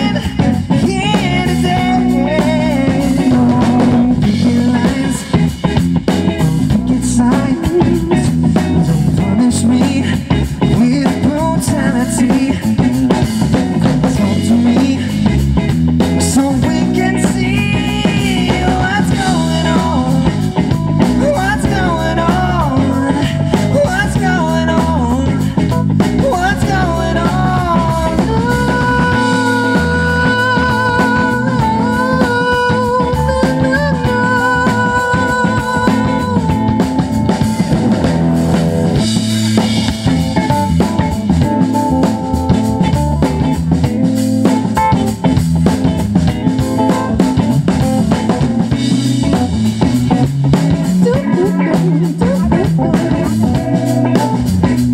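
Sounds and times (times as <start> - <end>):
bass guitar: 0.0 - 54.9
drum kit: 0.0 - 54.9
electric guitar: 0.0 - 54.9.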